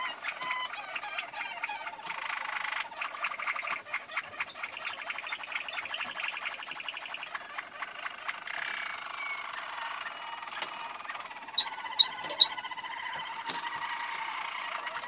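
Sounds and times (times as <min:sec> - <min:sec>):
canaries trilling: 0:00.0 - 0:15.0.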